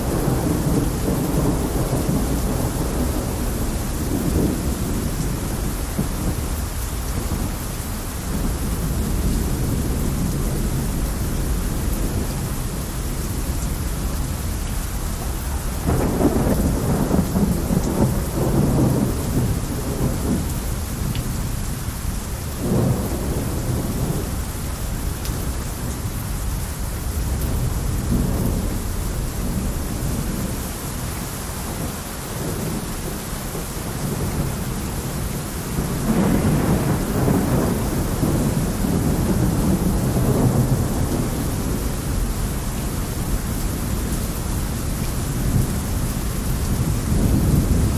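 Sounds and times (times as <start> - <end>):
heavy rain falling: 0.0 - 47.9
low thunder rumbles: 0.0 - 47.9.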